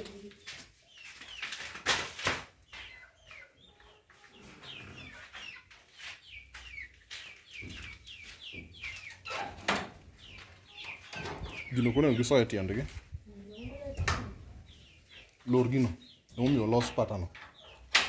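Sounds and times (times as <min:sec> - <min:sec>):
chickens calling: 0:00.0 - 0:18.0.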